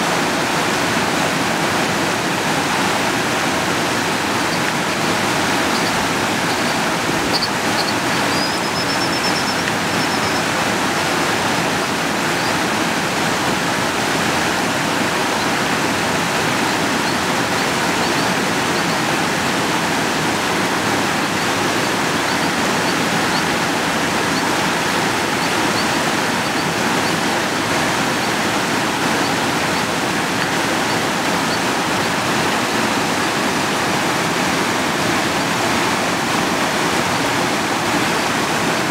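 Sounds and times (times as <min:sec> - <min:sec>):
creek rushing: 0:00.0 - 0:38.9.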